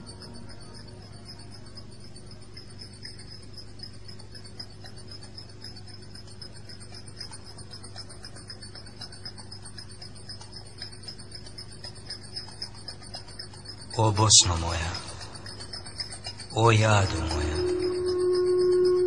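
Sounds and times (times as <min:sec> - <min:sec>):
insects chirping in a fast trill: 0:00.0 - 0:19.0
low steady hum: 0:00.0 - 0:19.0.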